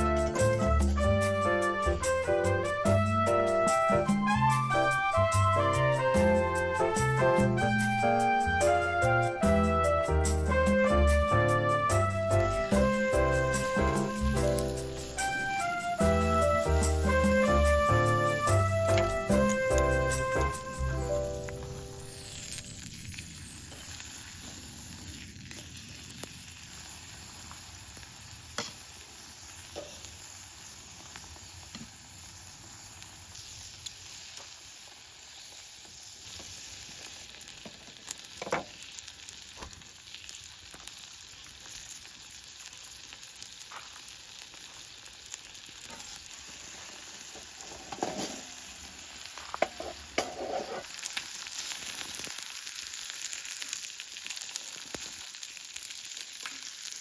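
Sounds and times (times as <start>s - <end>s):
food sizzling over fire: 0.0s - 57.0s.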